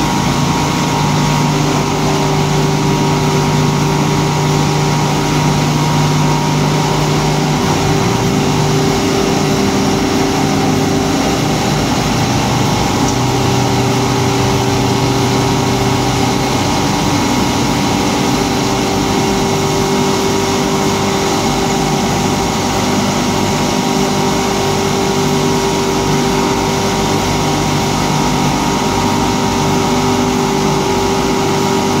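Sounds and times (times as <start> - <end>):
polishing machine droning: 0.0 - 32.0.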